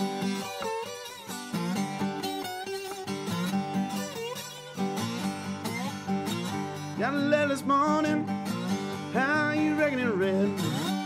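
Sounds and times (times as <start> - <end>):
acoustic country blues guitar: 0.0 - 11.0.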